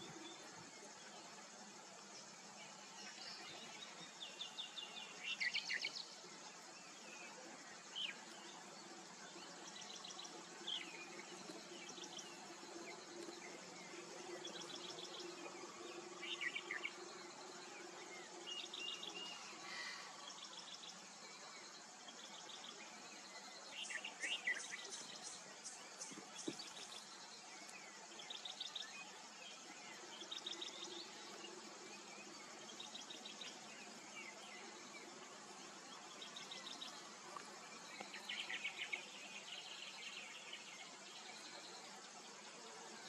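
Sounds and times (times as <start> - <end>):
outdoor hiss: 0.0 - 43.0
wild birds chirping: 0.0 - 43.0.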